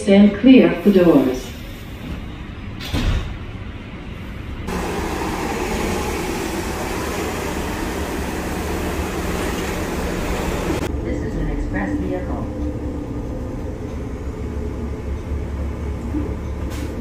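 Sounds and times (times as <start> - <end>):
buses idling and moving: 0.0 - 17.0
subway car hum: 0.0 - 17.0.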